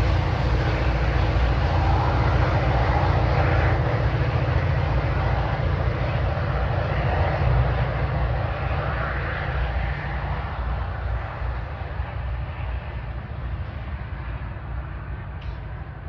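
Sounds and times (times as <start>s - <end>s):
diesel locomotive rumbling: 0.0s - 16.0s.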